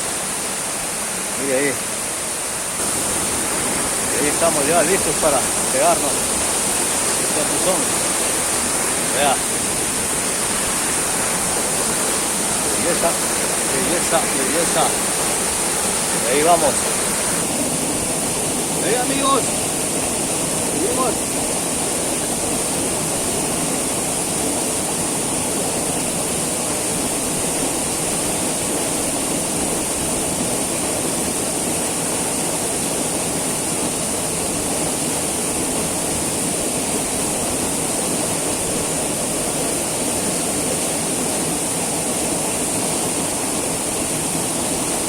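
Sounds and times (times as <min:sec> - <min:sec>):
small waterfall pouring: 0:00.0 - 0:45.0.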